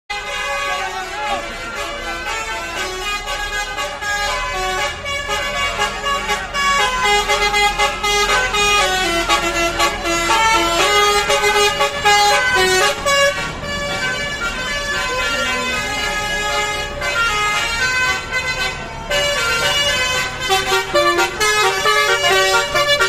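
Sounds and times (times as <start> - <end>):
bus musical horn playing tune: 0.1 - 23.0.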